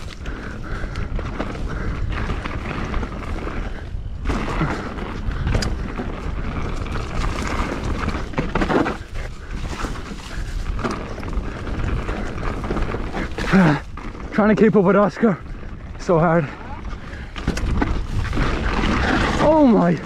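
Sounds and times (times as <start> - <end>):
wind on microphone: 0.0 - 14.3, 15.4 - 20.0
bike rattling over bumps: 0.0 - 20.0.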